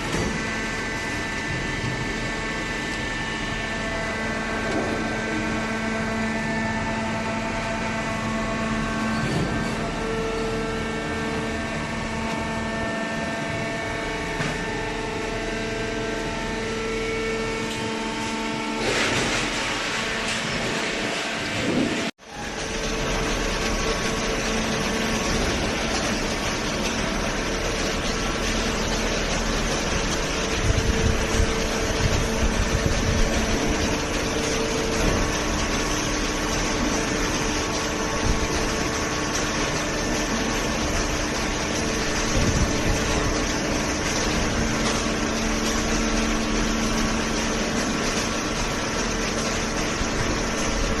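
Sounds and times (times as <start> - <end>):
hydraulic pump droning hum: 0.0 - 51.0.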